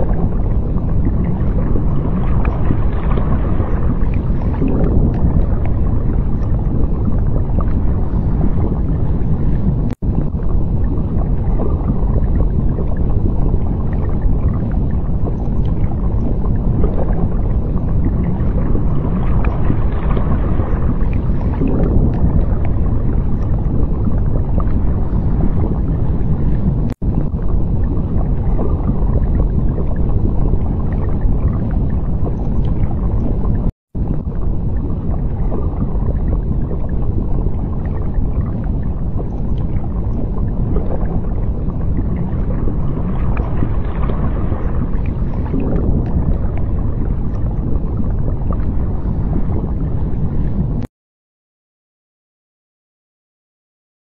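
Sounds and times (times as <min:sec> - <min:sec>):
underwater rumbling ambience: 0:00.0 - 0:50.9.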